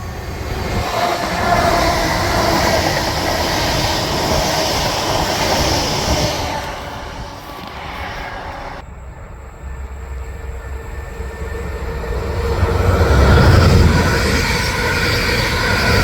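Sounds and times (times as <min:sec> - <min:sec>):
train passing on rails: 0:00.0 - 0:16.0.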